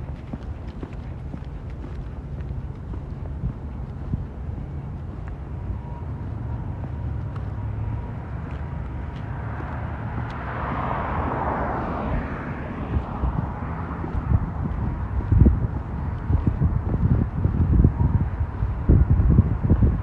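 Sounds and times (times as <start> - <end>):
vehicle passing: 0.0 - 20.0
wind rumble on microphone: 0.0 - 20.0.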